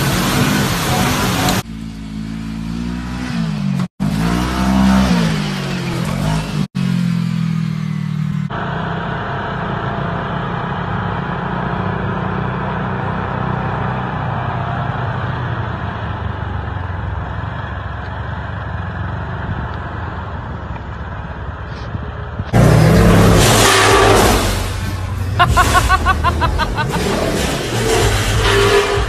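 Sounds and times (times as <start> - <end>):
engine and tire hum: 0.0 - 29.0
road and wind noise: 0.0 - 29.0.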